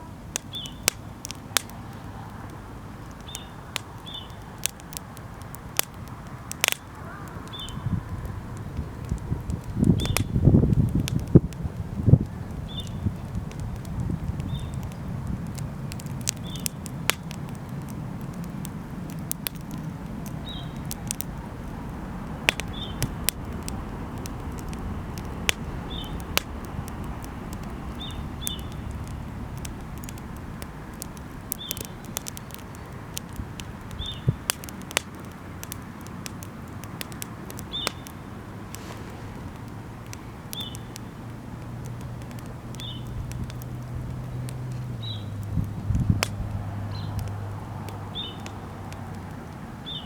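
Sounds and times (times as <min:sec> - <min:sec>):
bonfire crackling and popping: 0:00.0 - 0:50.0.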